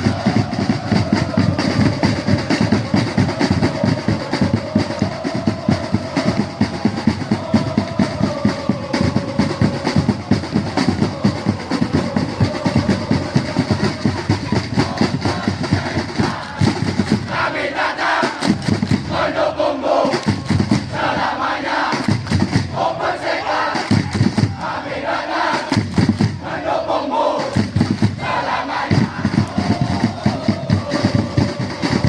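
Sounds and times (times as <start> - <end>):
crowd chanting: 0.0 - 32.0
drums beaten in fast rhythm: 0.0 - 32.0.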